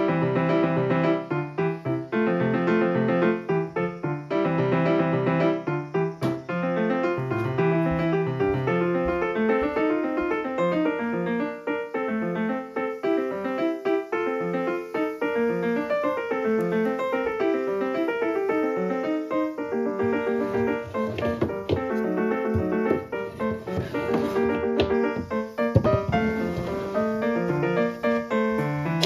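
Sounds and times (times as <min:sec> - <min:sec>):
light piano music: 0:00.0 - 0:29.0.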